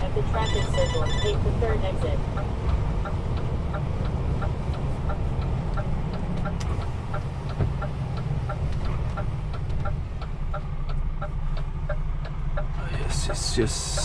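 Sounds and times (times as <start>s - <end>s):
diesel engine and road rumble: 0.0s - 14.0s
turn signal ticking: 0.0s - 14.0s.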